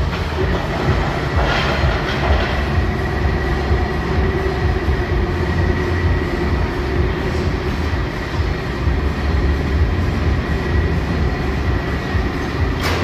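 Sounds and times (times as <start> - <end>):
machine drive rumbling with whine: 0.0 - 13.0.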